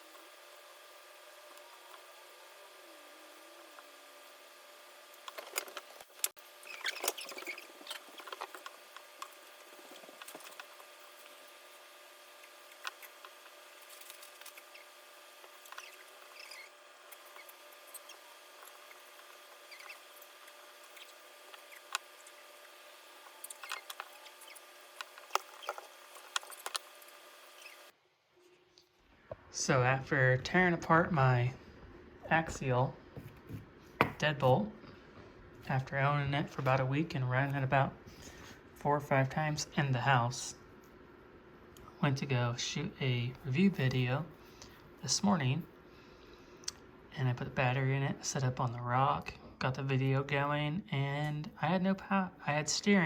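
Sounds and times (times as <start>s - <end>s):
faint hum: 0.0s - 53.0s.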